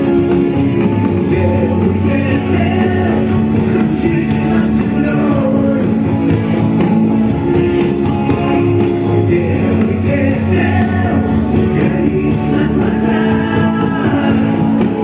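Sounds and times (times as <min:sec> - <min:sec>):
live rock band: 0:00.0 - 0:15.0
person singing: 0:00.0 - 0:15.0.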